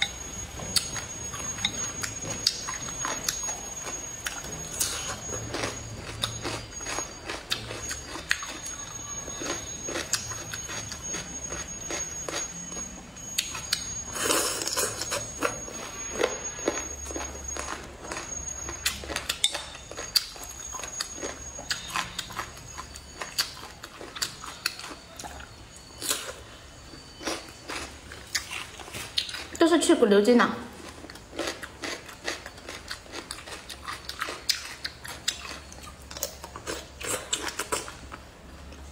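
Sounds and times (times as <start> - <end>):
chewing with wet crunches: 0.0 - 29.7, 30.7 - 38.9
faint high steady tone: 0.0 - 31.2.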